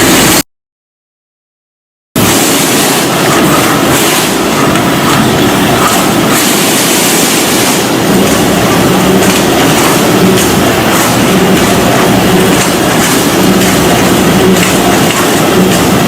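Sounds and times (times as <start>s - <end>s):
machine hum: 2.2s - 16.0s
sheet-metal machine clattering: 2.2s - 16.0s.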